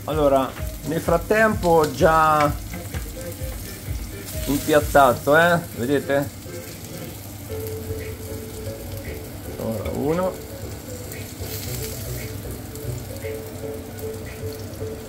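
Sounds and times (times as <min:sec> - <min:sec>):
faint music: 0:00.0 - 0:15.0
sausages sizzling in a pan: 0:00.0 - 0:15.0.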